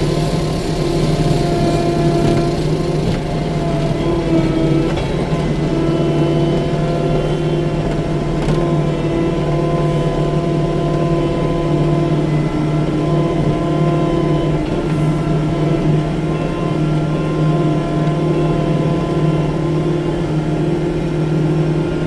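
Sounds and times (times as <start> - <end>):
loader engine droning: 0.0 - 22.0.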